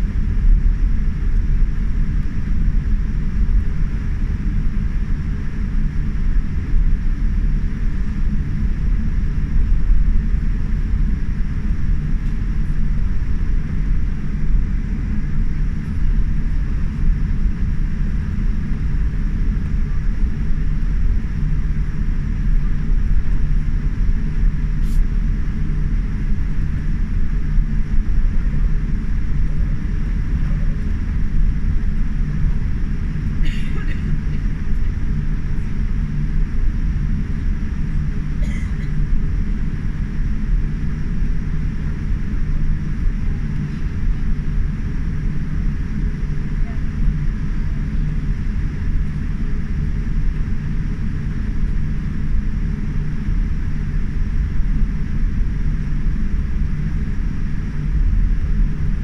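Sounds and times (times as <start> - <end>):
aircraft cabin engine roar: 0.0 - 59.0.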